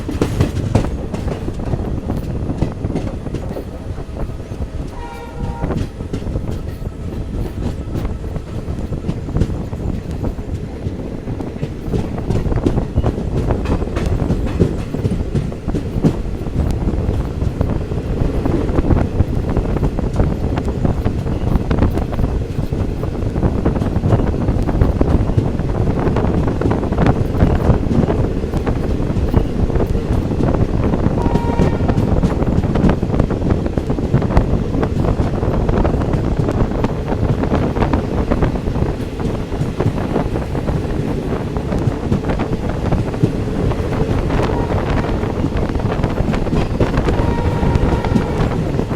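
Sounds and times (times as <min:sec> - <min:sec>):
train coaches rumbling: 0:00.0 - 0:48.9
wheels clicking over rail joints: 0:00.0 - 0:48.9
wind buffeting microphone: 0:00.0 - 0:48.9.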